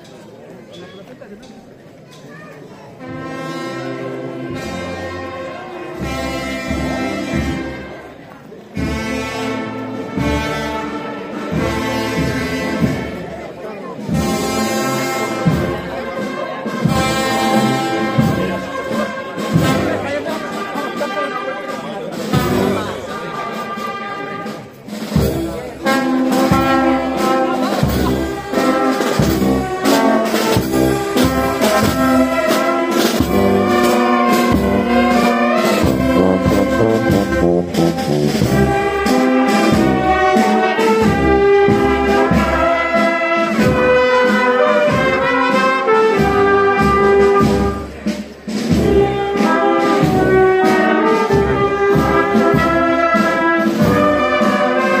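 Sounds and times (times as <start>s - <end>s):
street brass band playing: 2.6s - 55.0s
trumpets: 3.0s - 8.1s, 8.8s - 13.3s, 14.0s - 55.0s.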